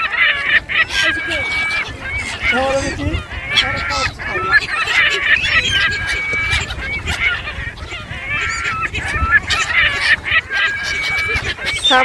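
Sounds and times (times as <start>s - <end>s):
geese honking: 0.0s - 12.0s
gulls calling: 0.0s - 12.0s
low wind rumble: 0.0s - 12.0s.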